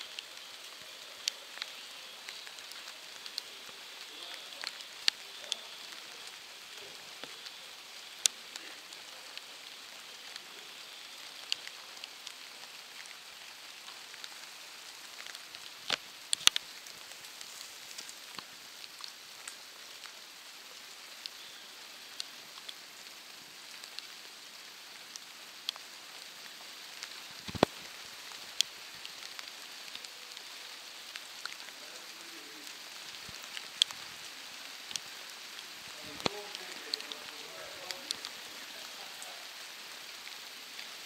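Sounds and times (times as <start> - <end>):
steady rain: 0.0 - 41.0.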